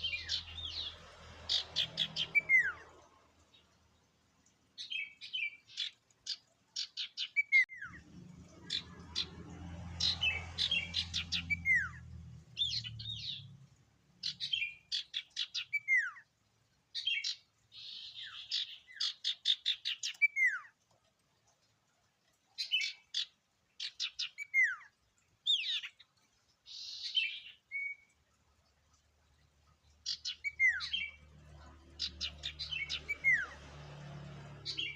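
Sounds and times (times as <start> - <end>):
bird chirps and trills: 0.0 - 3.8, 4.8 - 16.3, 17.0 - 20.8, 22.5 - 28.2, 29.8 - 34.9.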